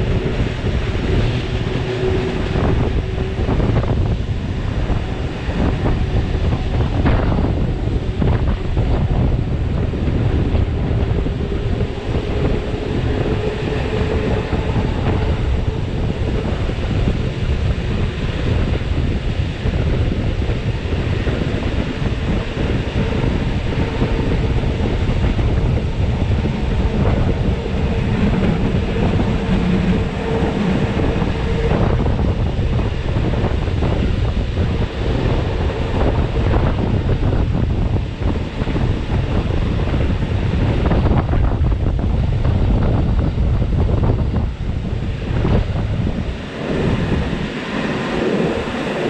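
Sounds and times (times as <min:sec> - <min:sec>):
steady whine: 0:00.0 - 0:49.0
train wheels on rails: 0:00.0 - 0:49.0
wind buffeting microphone: 0:00.0 - 0:49.0.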